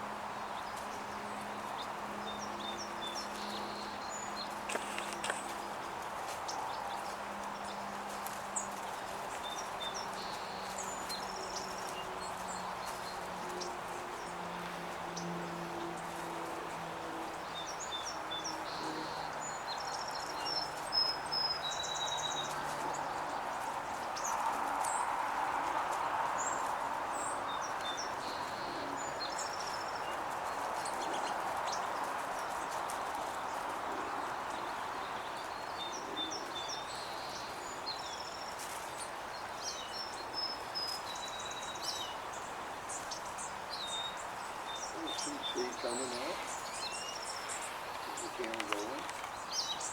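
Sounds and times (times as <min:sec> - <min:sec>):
small songbirds chirping: 0:00.0 - 0:49.9.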